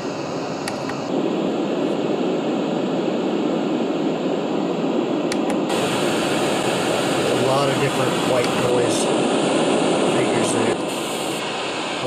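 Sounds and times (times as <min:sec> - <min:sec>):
white noise from speaker: 0:00.0 - 0:12.0.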